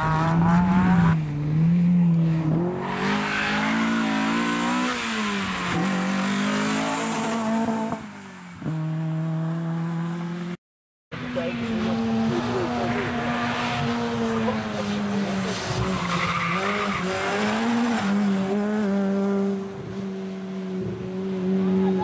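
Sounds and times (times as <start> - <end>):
rally car engine at high revs: 0.0 - 10.6, 11.2 - 22.0.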